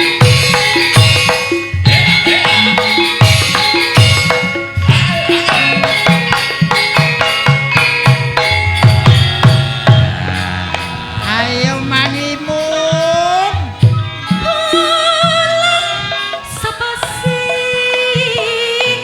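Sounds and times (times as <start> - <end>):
hand drum strokes: 0.0 - 19.0
metallophone notes: 0.0 - 19.0.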